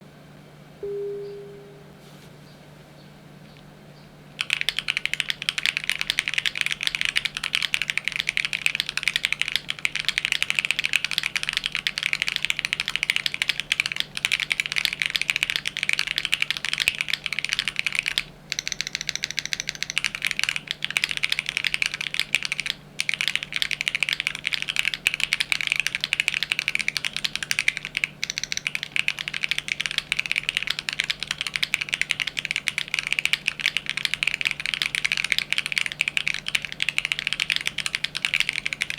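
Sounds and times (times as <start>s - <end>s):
fast keyboard typing: 4.4s - 38.9s.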